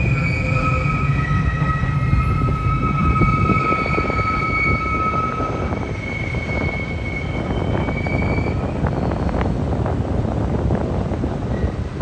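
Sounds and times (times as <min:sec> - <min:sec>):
high wheel squeal: 0:00.0 - 0:09.5, 0:11.5 - 0:12.0
freight train rumbling past: 0:00.0 - 0:12.0.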